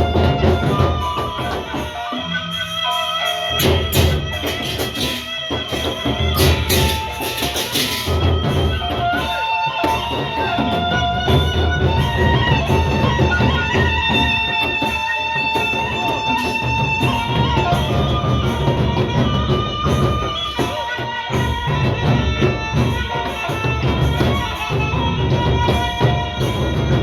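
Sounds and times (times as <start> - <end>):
large drums beating: 0.0 - 2.2, 3.5 - 27.0.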